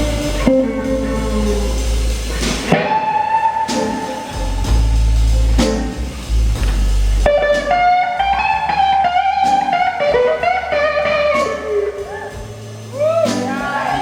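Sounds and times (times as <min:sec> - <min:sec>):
electric slide guitar: 0:00.0 - 0:06.4, 0:07.3 - 0:14.0
heavy bass: 0:00.0 - 0:14.0
live blues band: 0:00.0 - 0:14.0.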